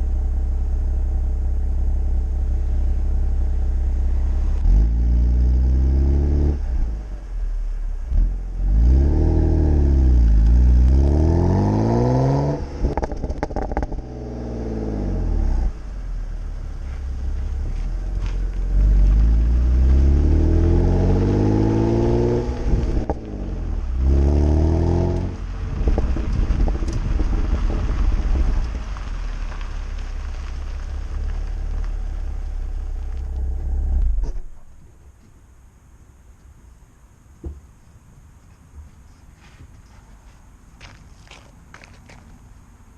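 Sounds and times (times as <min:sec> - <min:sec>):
car engine revving: 0:00.0 - 0:34.7
exhaust crackling and popping: 0:00.0 - 0:35.4.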